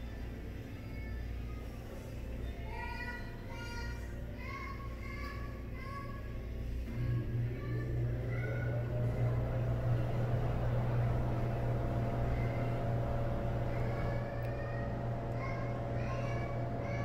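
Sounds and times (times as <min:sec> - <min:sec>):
exhaust fan motor hum: 0:00.0 - 0:17.0.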